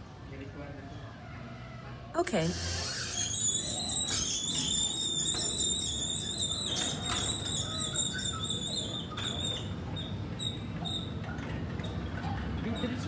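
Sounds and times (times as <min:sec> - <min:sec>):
sliding gate squealing: 0:02.4 - 0:13.0.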